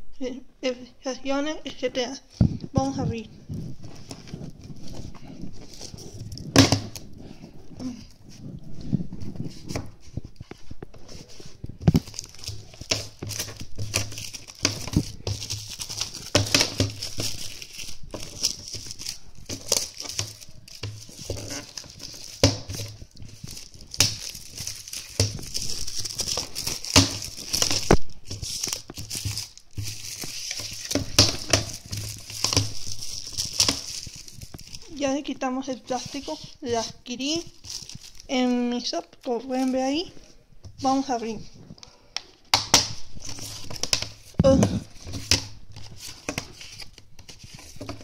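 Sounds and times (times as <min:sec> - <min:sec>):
plastic wrap crinkling and tearing: 0:02.6 - 0:48.0.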